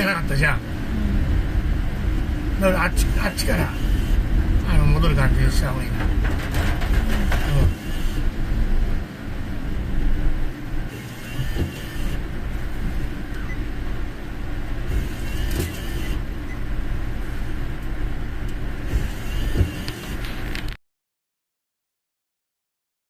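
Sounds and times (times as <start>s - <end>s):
car interior rumble: 0.0s - 20.8s.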